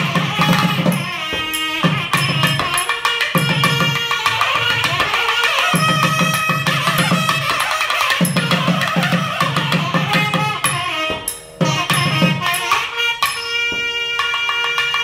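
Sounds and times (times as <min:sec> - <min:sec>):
nagaswarams playing a melody: 0:00.0 - 0:15.0.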